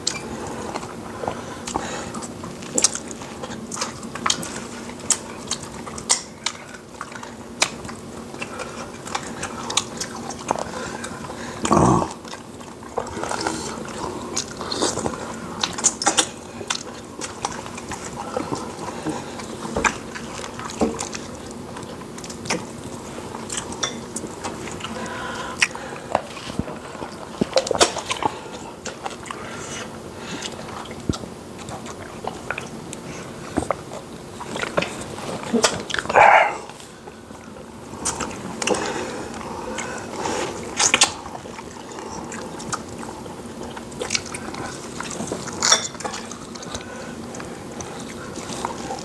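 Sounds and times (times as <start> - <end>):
people chewing food: 0.0 - 49.0.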